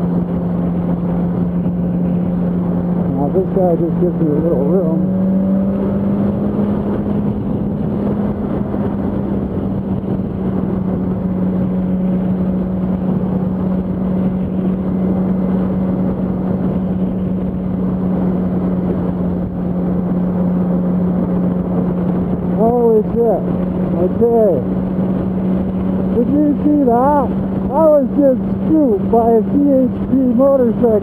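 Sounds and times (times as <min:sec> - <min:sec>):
heavy wind rush: 0:00.0 - 0:31.0
motorcycle engine cruising: 0:00.0 - 0:31.0.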